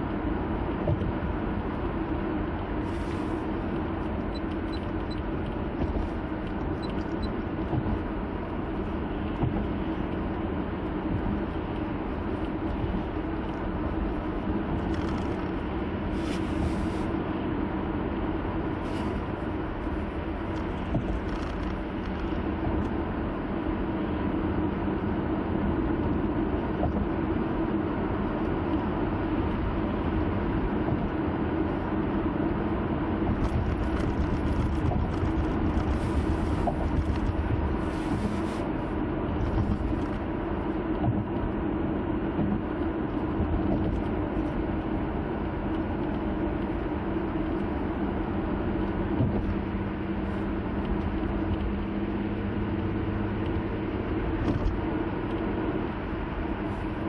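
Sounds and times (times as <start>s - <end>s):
low engine hum: 0.0s - 57.0s
road and tyre noise: 0.0s - 57.0s.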